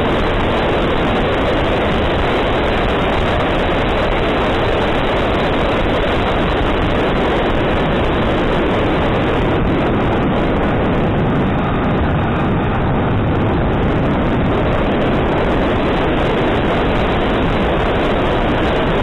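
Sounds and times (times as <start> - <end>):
ducted fan noise: 0.0 - 19.0
wind rushing: 0.0 - 19.0.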